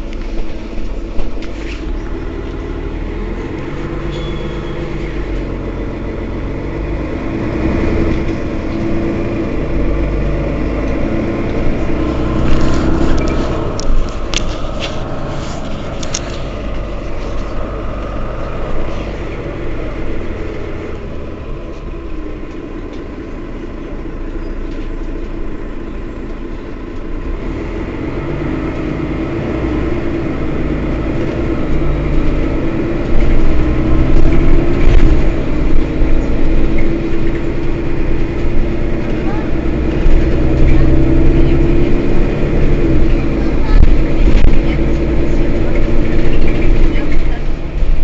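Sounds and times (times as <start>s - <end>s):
bus engine idling: 0.0s - 48.0s.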